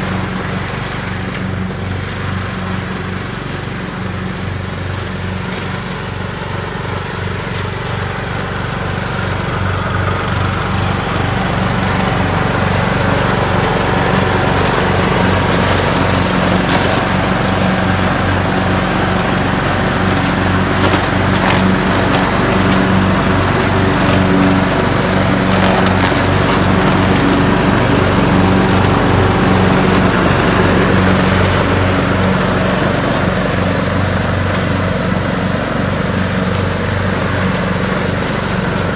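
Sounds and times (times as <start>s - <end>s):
grass trimmer engine running: 0.0s - 38.9s.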